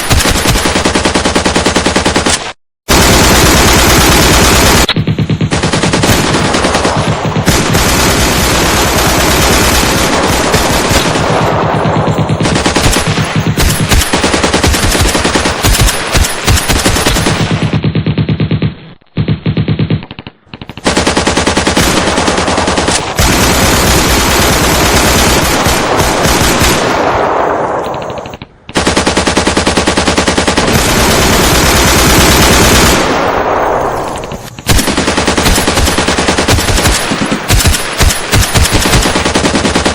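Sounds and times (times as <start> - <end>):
machine-gun fire: 0.0 - 39.9.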